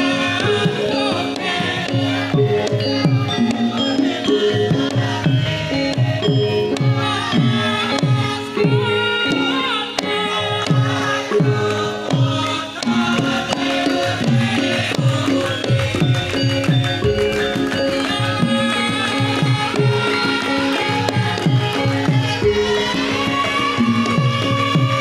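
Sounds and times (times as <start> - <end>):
gamelan music: 0.0 - 25.0.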